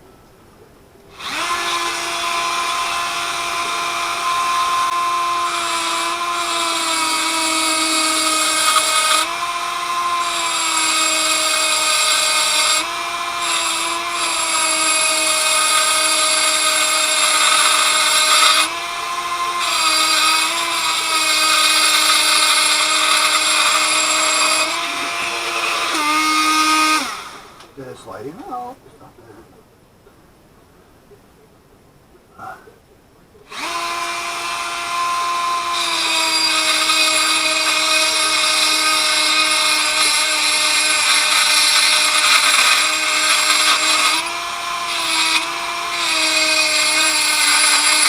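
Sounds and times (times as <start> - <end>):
power tool grinding metal: 1.1 - 27.7, 33.5 - 48.0.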